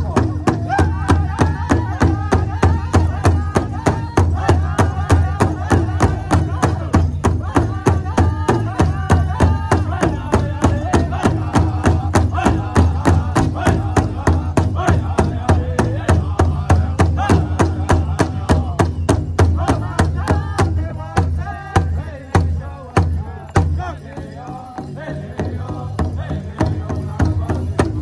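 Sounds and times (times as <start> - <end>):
large hide drum beating: 0.0 - 24.3
group singing high-pitched melody: 0.0 - 28.0.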